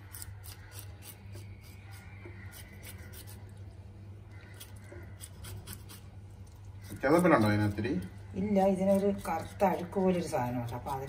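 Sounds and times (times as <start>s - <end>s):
knife scraping fish skin: 0.0s - 3.6s, 4.5s - 8.1s, 8.8s - 11.0s.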